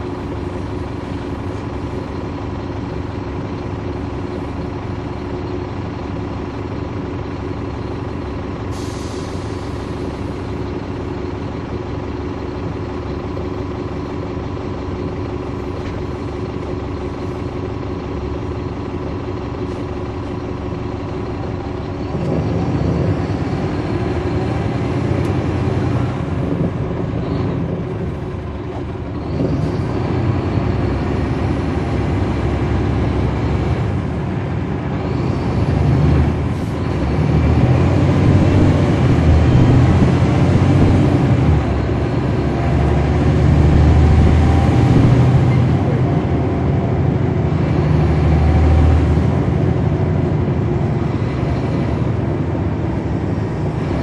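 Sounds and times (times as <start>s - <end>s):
bus diesel engine accelerating: 0.0s - 54.0s.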